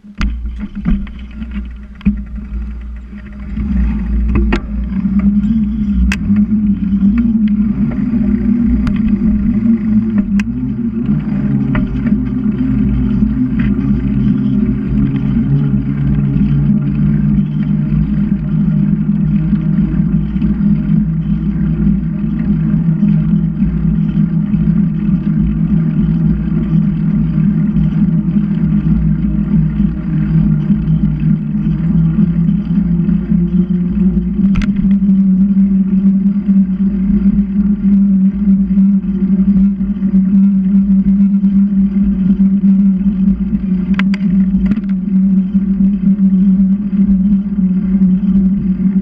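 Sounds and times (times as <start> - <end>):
low rumble of riding: 0.0 - 49.0.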